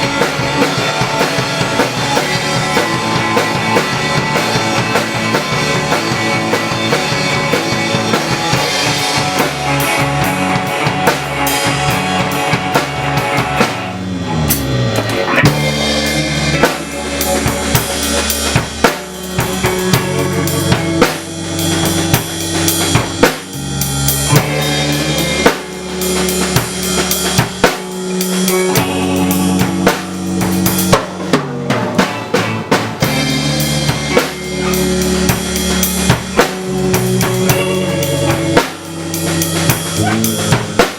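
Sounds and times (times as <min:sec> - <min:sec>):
bass and pitched instruments: 0:00.0 - 0:40.9
bass drum and snare beat: 0:00.0 - 0:40.9.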